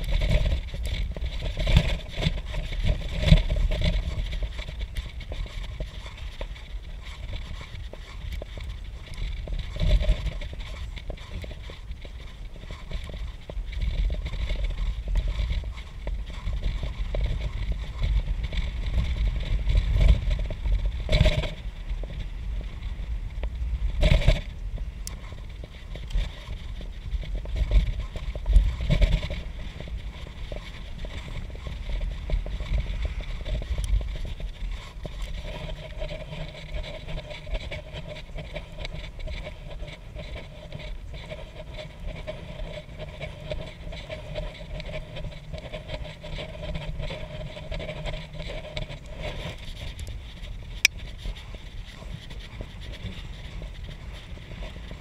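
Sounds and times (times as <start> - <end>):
bicycle jolting over bumps: 0.0 - 55.0
bicycle tyre rumble on road: 0.0 - 55.0
wind on microphone: 0.0 - 55.0.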